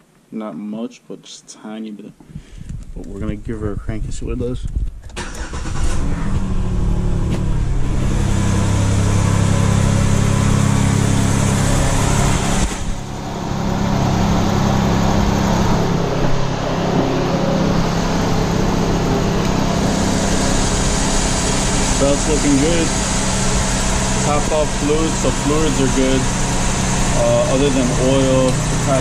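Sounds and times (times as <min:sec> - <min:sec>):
car engine cranking and starting: 0:05.0 - 0:29.0
car engine idling: 0:05.2 - 0:29.0.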